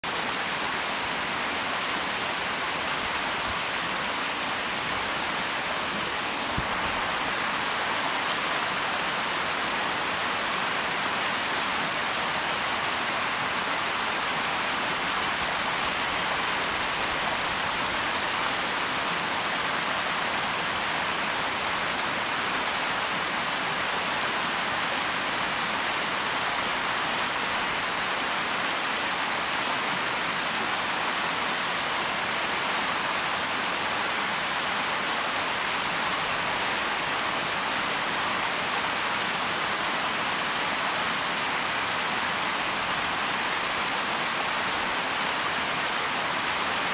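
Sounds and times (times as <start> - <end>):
stream rushing over rocks: 0.0 - 46.9.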